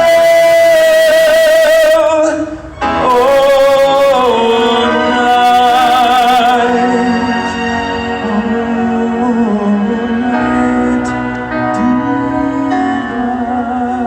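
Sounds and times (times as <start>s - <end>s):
musical accompaniment: 0.0s - 14.0s
person singing with vibrato: 0.0s - 14.0s.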